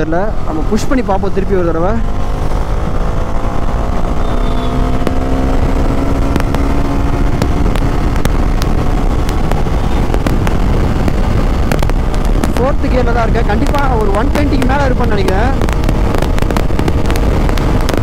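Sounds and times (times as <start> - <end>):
motorcycle engine at full throttle: 0.0 - 18.0
wind rush: 0.0 - 18.0.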